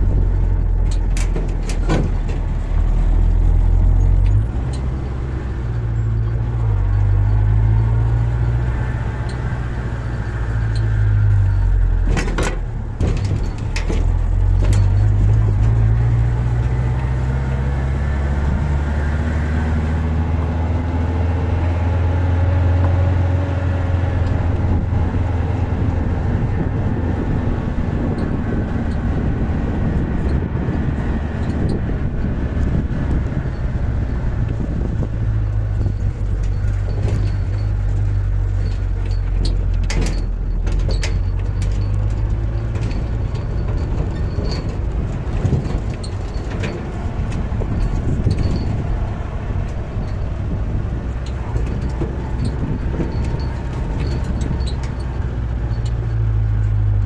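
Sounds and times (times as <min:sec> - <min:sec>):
tyre and road noise: 0:00.0 - 0:57.0
vehicle engine running: 0:00.0 - 0:57.0.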